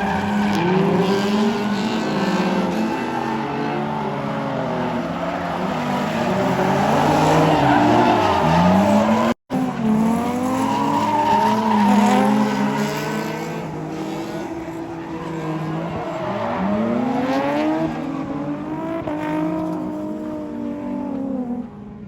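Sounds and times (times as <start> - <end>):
race car engines revving: 0.0 - 22.0.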